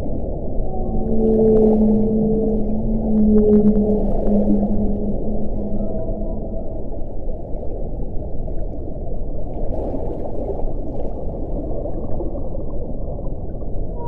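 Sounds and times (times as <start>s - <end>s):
underwater rush of water: 0.0s - 14.0s.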